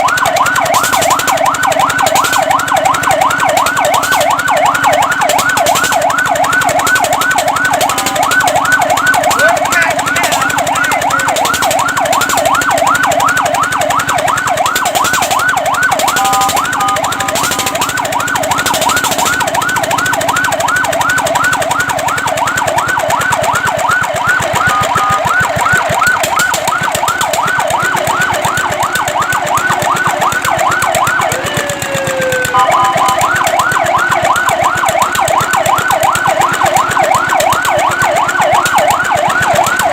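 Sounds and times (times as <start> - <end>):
fire truck siren yelping: 0.0 - 39.9
short steady siren tones: 0.0 - 39.9.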